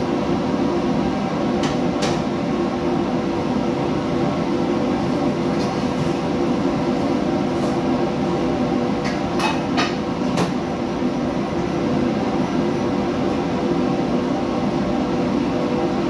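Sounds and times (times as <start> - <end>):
exhaust hood and burner drone: 0.0 - 16.0.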